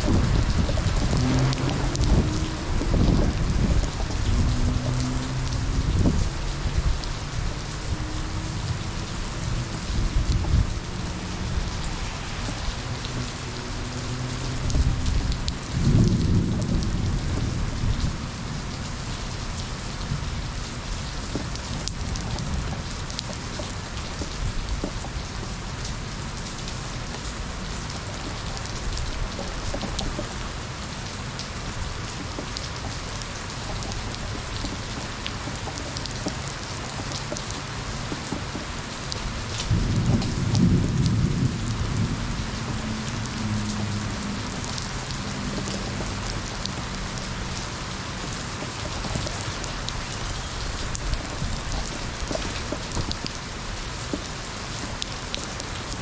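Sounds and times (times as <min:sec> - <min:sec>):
thunder rumbling: 0:00.0 - 0:54.0
heavy rain falling: 0:00.0 - 0:56.0.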